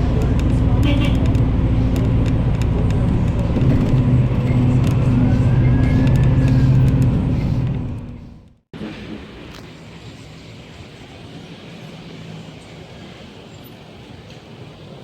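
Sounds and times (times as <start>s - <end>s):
vehicle engine drone: 0.0s - 15.0s.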